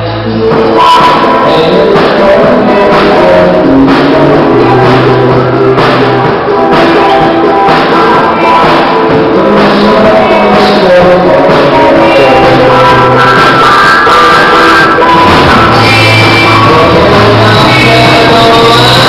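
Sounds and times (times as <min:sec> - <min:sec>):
man singing: 0:00.0 - 0:19.0
rock band playing: 0:00.0 - 0:19.0.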